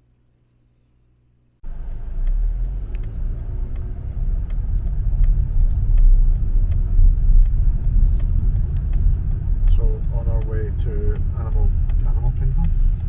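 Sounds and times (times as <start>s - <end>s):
car road and engine rumble: 1.6s - 13.0s
faint ticks: 1.7s - 13.0s.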